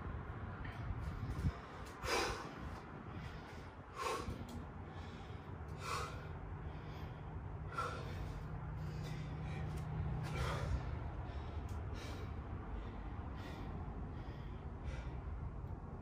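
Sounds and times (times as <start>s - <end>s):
man breathing heavily: 0.1s - 16.0s.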